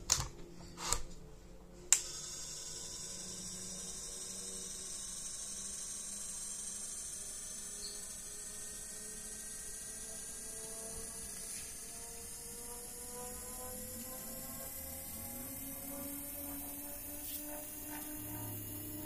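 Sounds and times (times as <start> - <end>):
small electric motor humming: 1.9 - 19.0.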